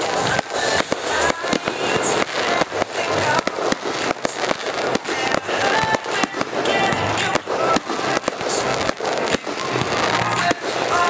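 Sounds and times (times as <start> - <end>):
fireworks bangs: 0.0 - 11.0
fireworks crackle and hiss: 0.0 - 11.0.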